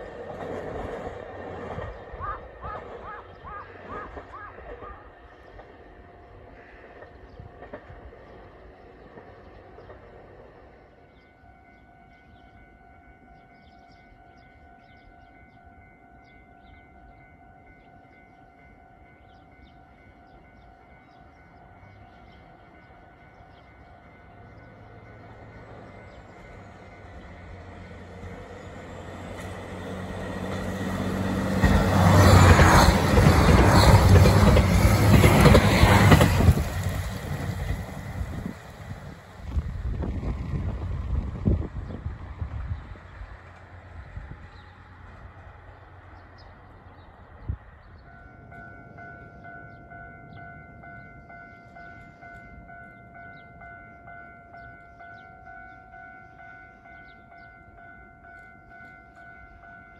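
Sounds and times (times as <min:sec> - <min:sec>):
train passing at speed: 0:00.0 - 0:59.9.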